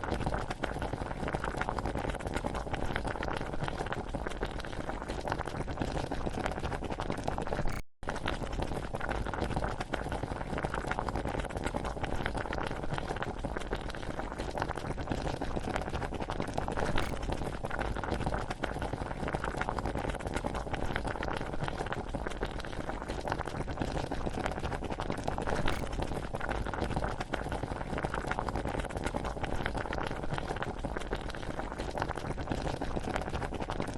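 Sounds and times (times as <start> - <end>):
pot of water boiling: 0.0 - 33.9.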